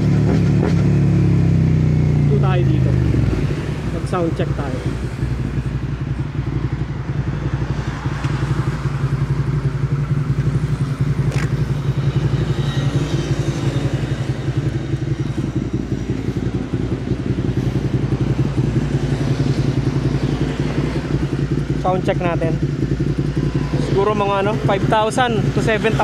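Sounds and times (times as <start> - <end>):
motorcycle engine idling: 0.9 - 26.0.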